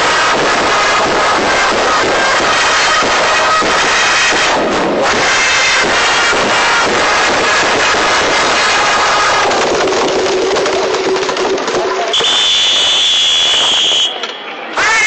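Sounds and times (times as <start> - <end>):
trumpets playing a cheer song: 0.0 - 9.7, 12.1 - 15.0.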